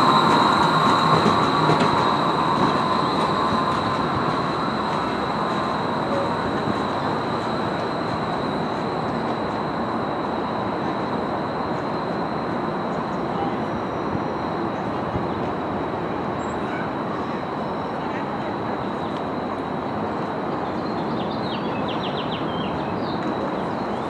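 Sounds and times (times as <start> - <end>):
high-pitched whine: 0.0 - 24.0
streetcar wheels rumbling: 0.0 - 24.0.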